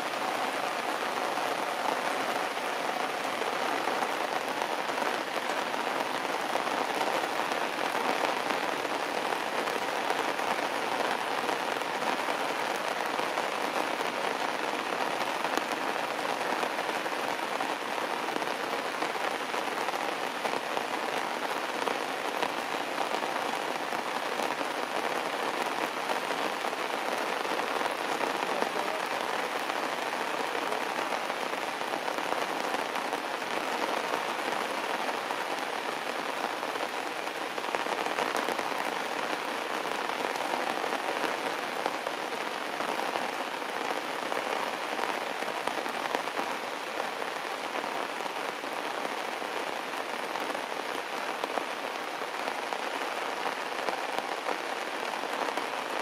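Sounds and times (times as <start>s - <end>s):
heavy rain on stone and leaves: 0.0s - 56.0s.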